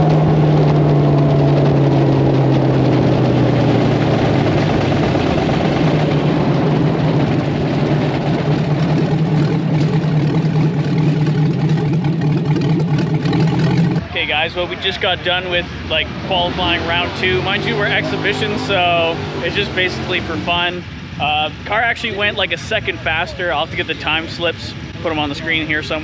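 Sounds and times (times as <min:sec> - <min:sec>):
dense rushing noise: 0:00.0 - 0:26.0
engine running steadily: 0:00.0 - 0:26.0.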